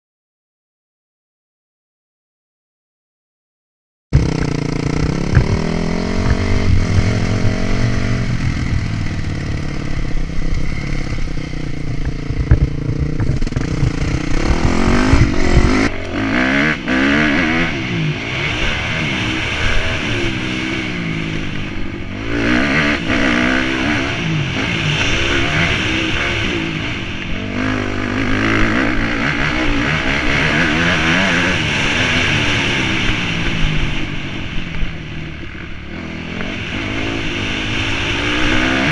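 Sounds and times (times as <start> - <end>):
motocross bike engine revving: 4.2 - 38.9.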